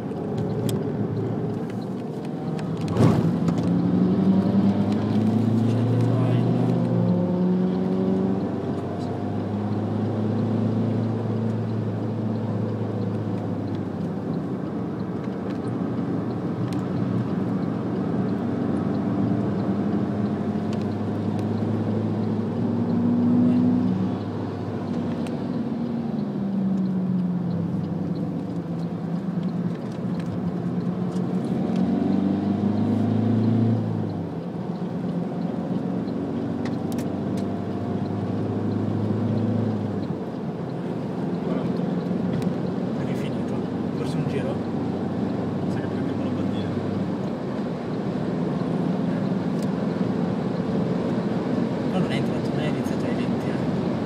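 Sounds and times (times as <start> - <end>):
car engine accelerating: 0.0 - 54.0
road and wind noise: 0.0 - 54.0.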